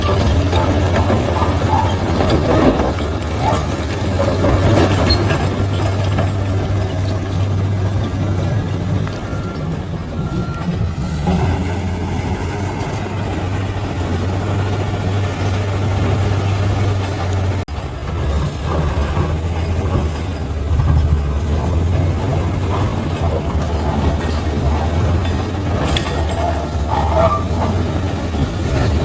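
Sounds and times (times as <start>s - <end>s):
bulldozer diesel engine droning: 0.0s - 29.0s
machine grinding and clatter: 0.0s - 29.0s.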